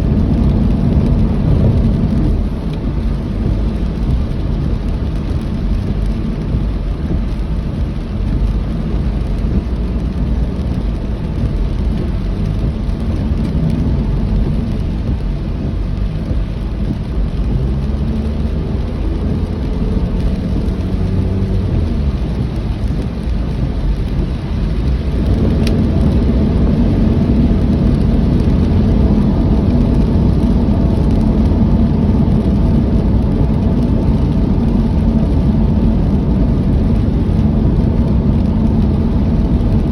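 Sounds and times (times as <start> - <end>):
heavy rain rumble: 0.0 - 39.9
vehicle engine and road noise: 0.0 - 39.9.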